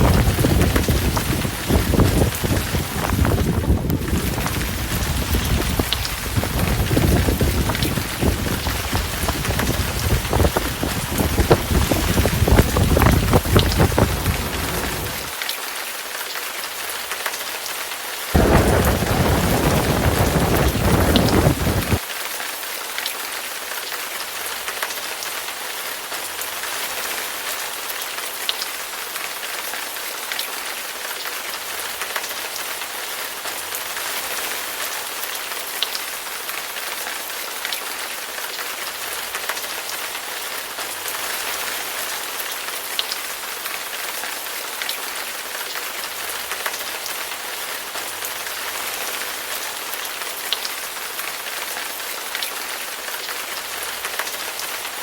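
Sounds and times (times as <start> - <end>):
rain pattering on hard surface: 0.0 - 55.0.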